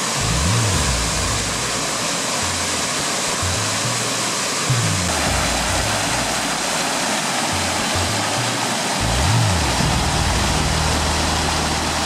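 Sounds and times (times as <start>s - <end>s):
low background music: 0.0s - 12.0s
water rushing over rocks: 0.0s - 12.0s.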